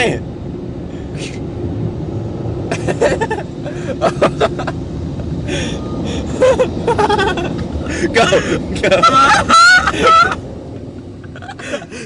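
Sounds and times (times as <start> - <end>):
car wash air blowers: 1.0 - 12.0.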